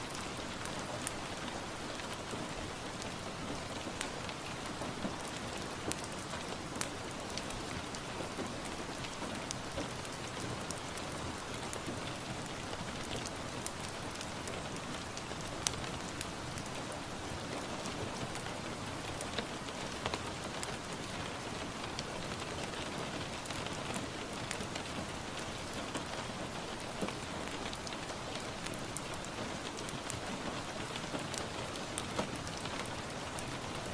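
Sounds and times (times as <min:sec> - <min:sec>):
steady rain: 0:00.0 - 0:33.9
wood fire crackling: 0:00.0 - 0:33.9.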